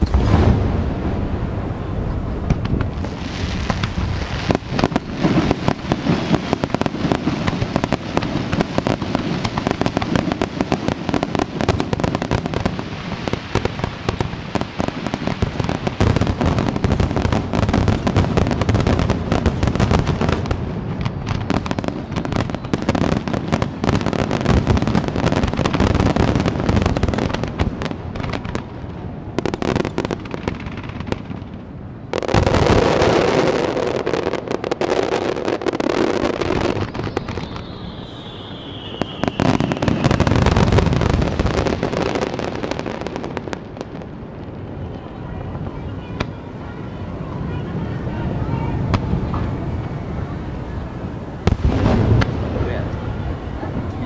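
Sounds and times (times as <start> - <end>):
fireworks bursts and crackle: 0.0 - 54.0.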